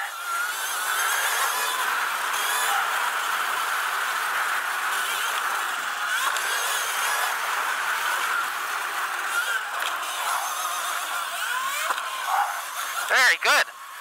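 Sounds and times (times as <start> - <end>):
electric motor whine: 0.0 - 14.0
wind: 0.0 - 14.0.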